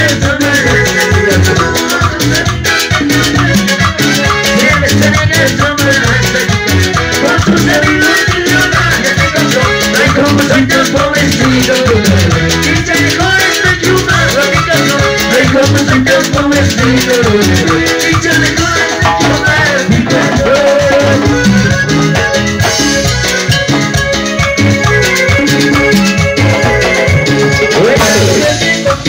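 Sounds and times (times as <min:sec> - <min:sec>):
latin dance band playing: 0:00.0 - 0:29.0.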